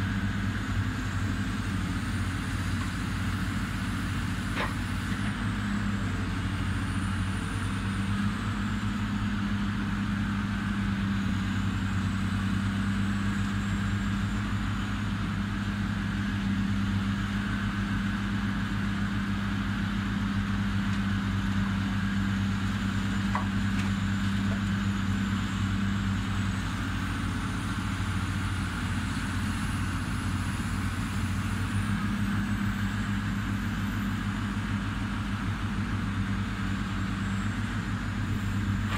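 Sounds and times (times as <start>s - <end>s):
diesel machinery droning: 0.0s - 38.9s.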